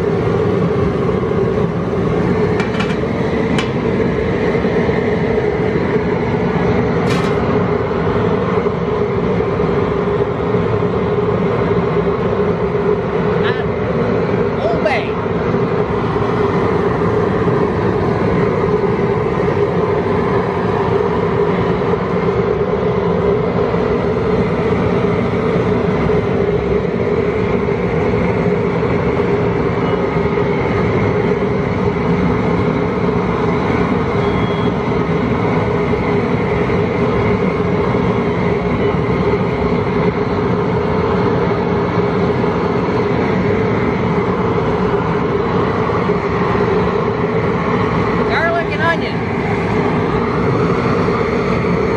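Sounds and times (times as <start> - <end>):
gas burner roaring: 0.0 - 51.9
pot at a rolling boil: 0.0 - 51.9.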